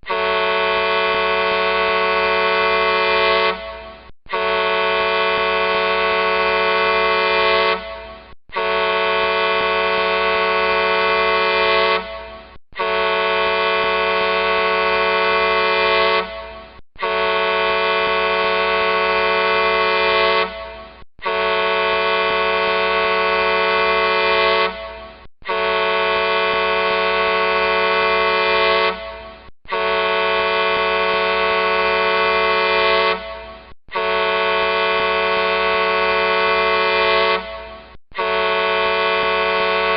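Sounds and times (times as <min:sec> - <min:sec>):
truck horn blasts: 0:00.0 - 0:39.9.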